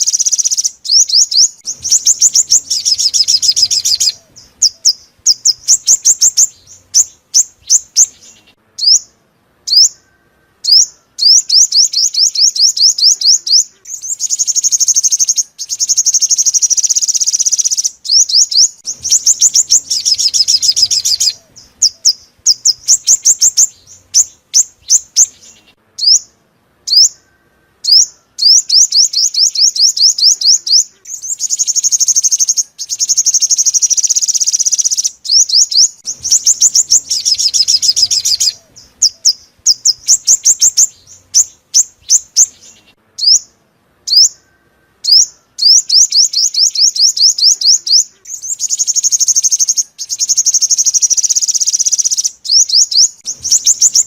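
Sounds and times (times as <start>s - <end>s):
bird singing high trills: 0.0s - 54.0s.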